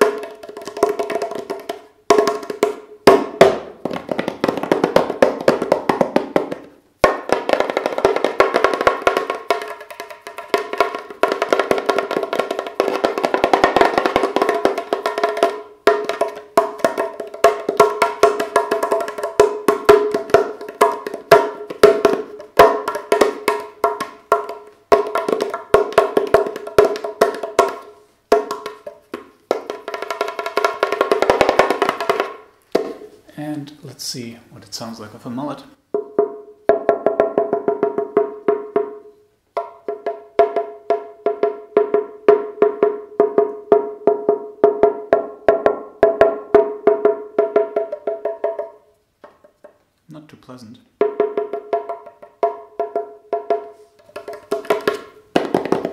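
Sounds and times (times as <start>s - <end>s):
clay hand drum played with fingers: 0.0s - 33.2s, 35.8s - 50.0s, 50.9s - 55.9s.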